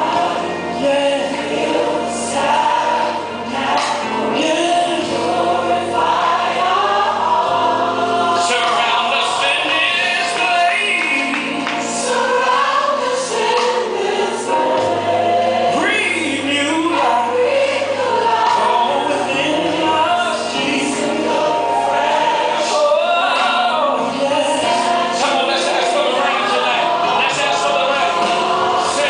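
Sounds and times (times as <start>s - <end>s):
choir singing a worship song: 0.0s - 29.0s
instrumental accompaniment: 0.0s - 29.0s.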